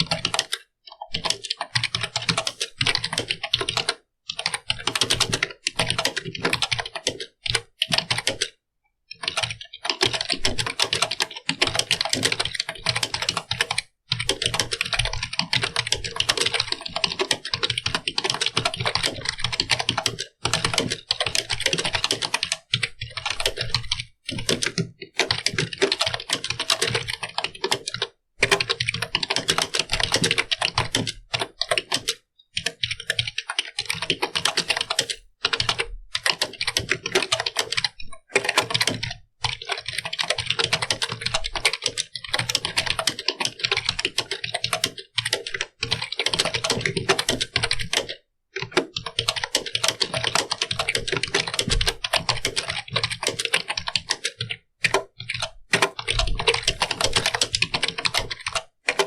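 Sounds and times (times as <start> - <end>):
fast typing on computer keyboard: 0.0 - 59.0.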